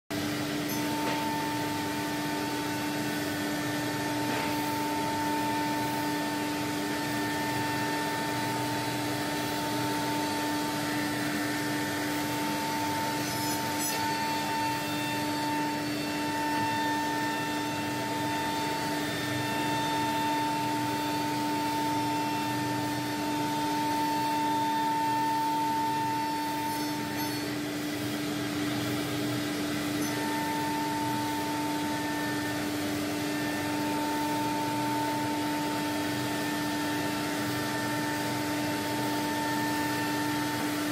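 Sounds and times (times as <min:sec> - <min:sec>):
router spindle whine: 0:00.2 - 0:40.9.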